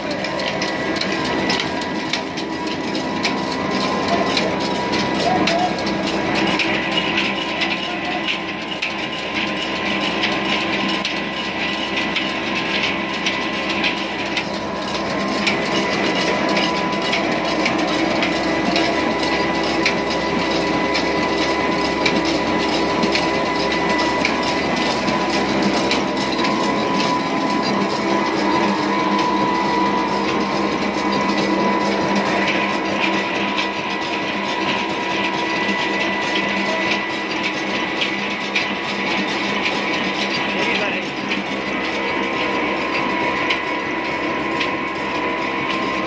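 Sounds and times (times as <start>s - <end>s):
diesel engine and belts clattering: 0.0s - 46.0s
steady whine: 0.0s - 46.0s.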